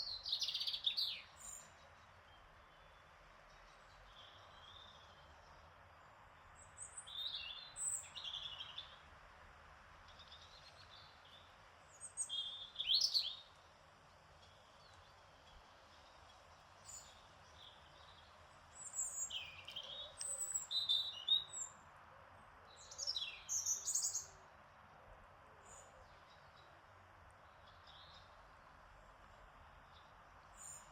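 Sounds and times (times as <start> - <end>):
small songbirds chirping: 0.0 - 9.1, 9.8 - 24.6, 25.6 - 30.9
soft steady background hiss: 0.0 - 30.9.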